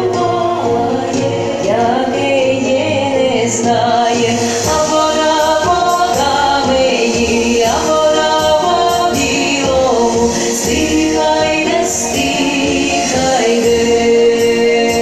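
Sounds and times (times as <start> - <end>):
several voices singing: 0.0 - 15.0.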